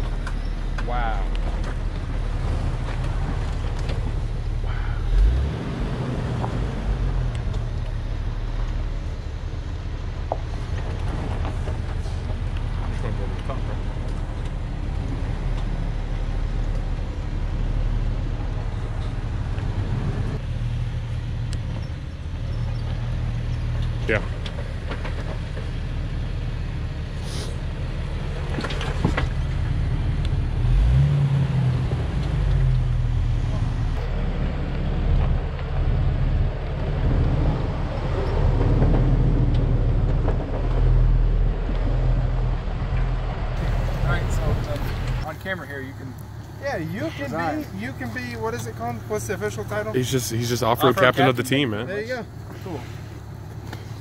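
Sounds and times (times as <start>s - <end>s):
engine low rumble: 0.0s - 54.0s.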